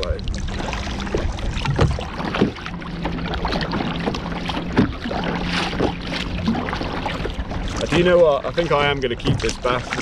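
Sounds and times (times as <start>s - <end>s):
kayak paddle splashing: 0.0s - 10.0s.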